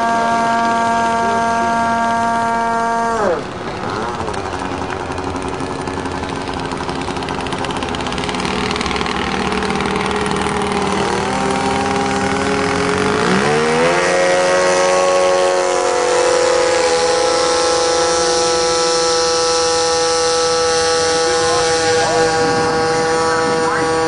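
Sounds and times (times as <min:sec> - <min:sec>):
model plane engine running: 0:00.0 - 0:24.0.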